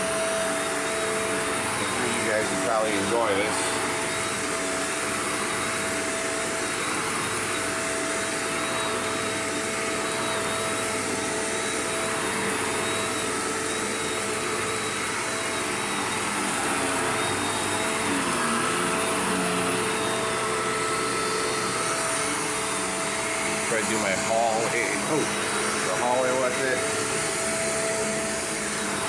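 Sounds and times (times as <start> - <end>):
upright vacuum cleaner running: 0.0 - 29.0.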